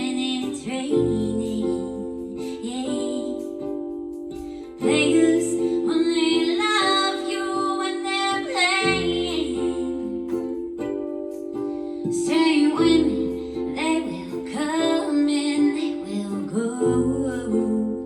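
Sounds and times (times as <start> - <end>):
woman singing: 0.0 - 3.8, 4.7 - 10.6, 12.0 - 18.0
plucked-string accompaniment: 0.0 - 18.0.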